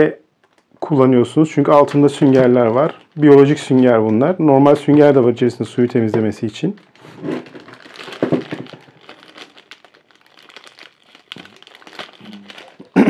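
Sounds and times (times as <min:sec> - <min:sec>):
plastic bag crinkling: 0:00.4 - 0:00.8, 0:01.5 - 0:13.0.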